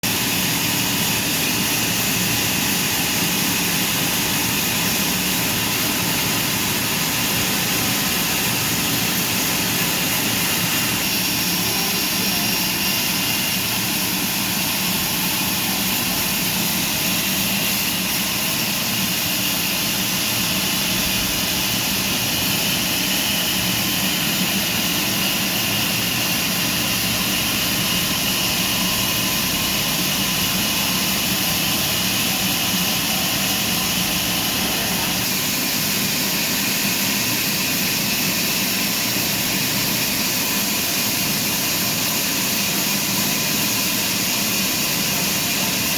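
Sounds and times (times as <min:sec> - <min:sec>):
sawmill machinery whine: 0:00.1 - 0:45.9.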